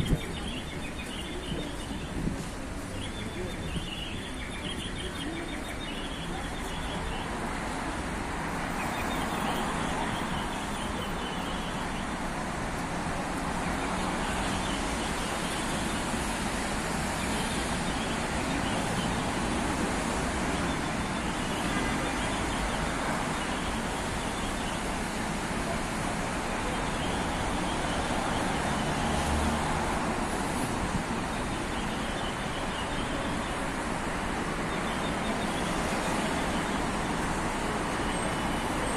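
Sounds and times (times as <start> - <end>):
cars and buses passing on wet road: 0.0 - 38.9.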